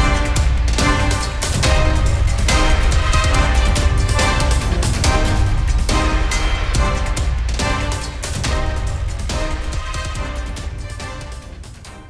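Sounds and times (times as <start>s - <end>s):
music with deep bass beat: 0.0s - 12.0s.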